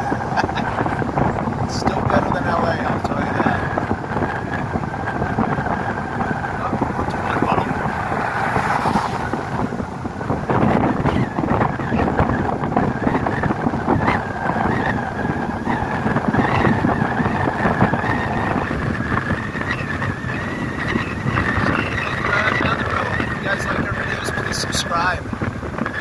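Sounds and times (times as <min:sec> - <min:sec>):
car tyre and engine rumble: 0:00.0 - 0:26.0
pickup truck passing: 0:00.0 - 0:26.0.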